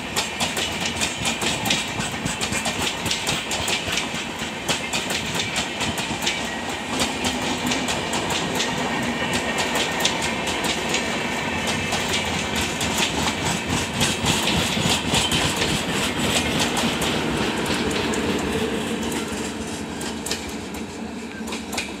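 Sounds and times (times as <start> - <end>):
train wheels clattering over rails: 0.0 - 22.0.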